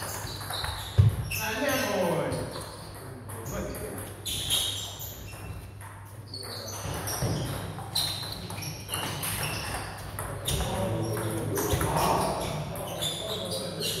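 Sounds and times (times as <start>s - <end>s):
table tennis balls knocking: 0.0s - 1.3s, 2.6s - 13.2s.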